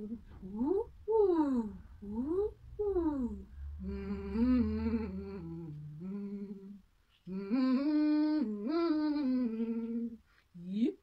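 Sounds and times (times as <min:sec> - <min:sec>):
girl humming vocal exercises: 0:00.0 - 0:10.8.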